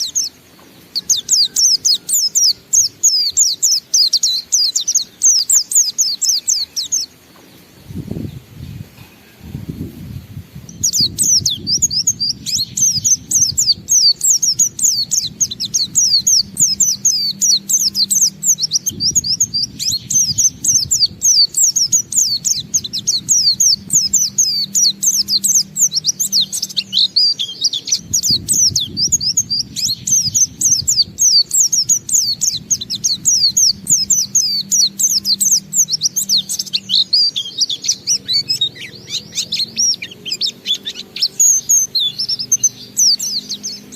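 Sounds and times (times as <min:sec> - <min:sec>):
bird singing high chirping notes: 0:00.0 - 0:43.9.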